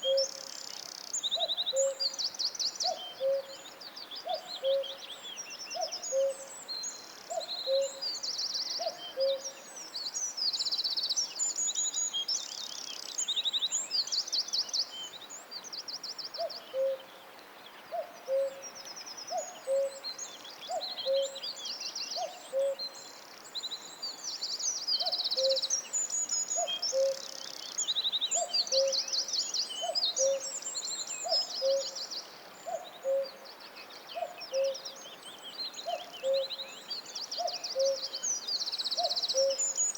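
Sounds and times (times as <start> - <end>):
songbirds trilling and warbling: 0.0 - 39.9.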